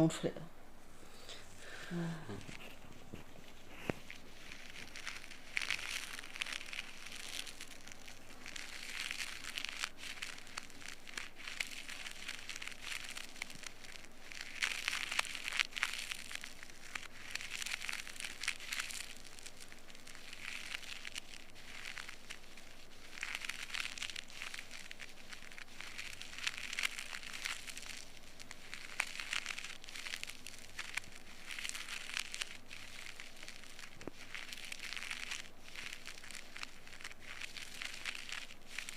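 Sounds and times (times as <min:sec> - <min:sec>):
ear-pick scraping earwax: 0:01.0 - 0:38.9.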